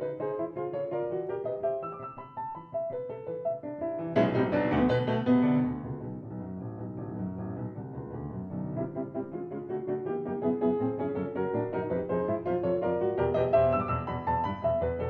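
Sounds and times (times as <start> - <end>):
solo classical piano: 0.0 - 15.0.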